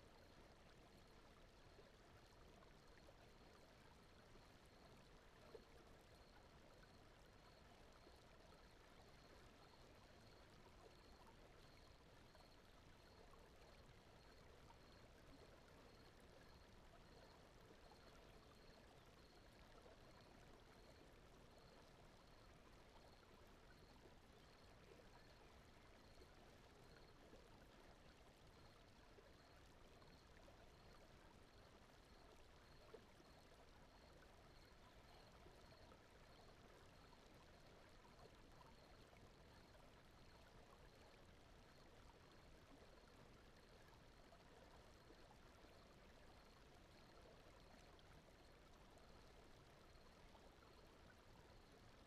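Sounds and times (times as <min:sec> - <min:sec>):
faint brown noise: 0:00.0 - 0:52.0.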